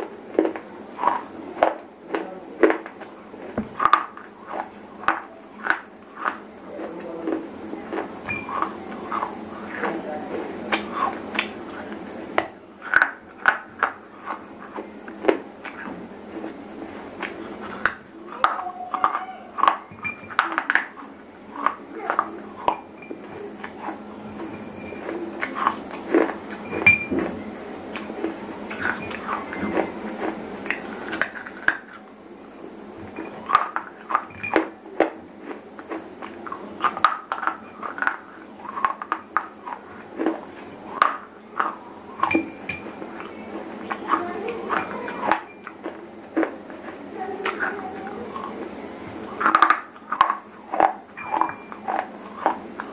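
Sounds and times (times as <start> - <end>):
crunchy biting and chewing: 0.3 - 12.0, 12.8 - 27.3, 27.9 - 32.1, 33.2 - 42.3, 49.3 - 52.9.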